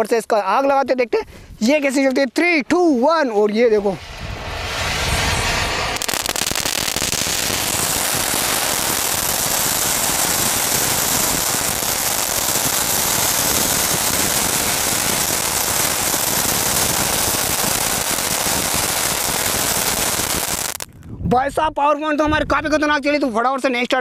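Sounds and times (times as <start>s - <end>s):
firework crackling and hissing: 1.6s - 21.0s.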